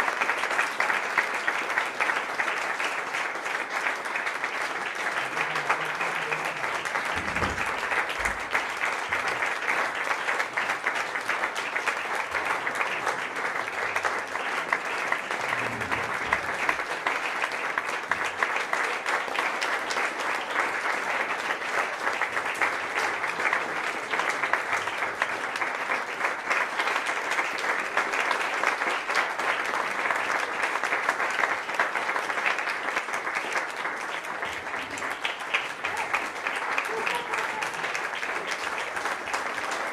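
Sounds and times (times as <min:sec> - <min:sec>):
large audience applauding: 0:00.0 - 0:39.9.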